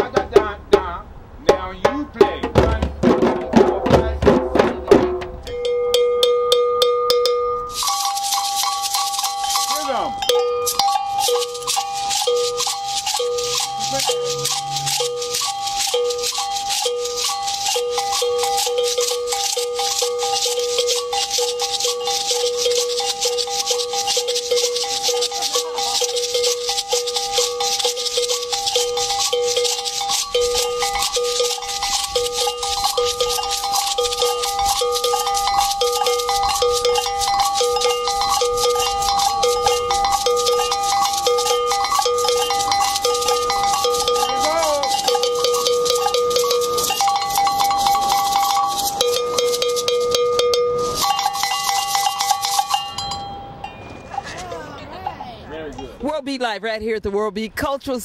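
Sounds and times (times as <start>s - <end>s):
shekere shakers rattling: 5.3s - 55.3s
ringing bell strokes: 5.4s - 54.9s.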